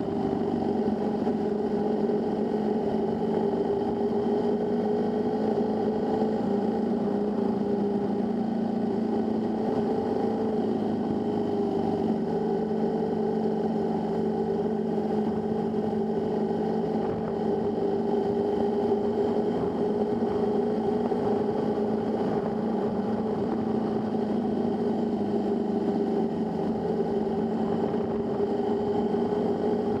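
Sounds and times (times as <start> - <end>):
motorcycle engine riding: 0.0 - 30.0.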